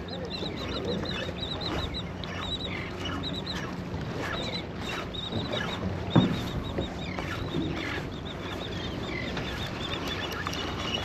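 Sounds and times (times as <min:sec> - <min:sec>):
boat engine hum: 0:00.0 - 0:11.0.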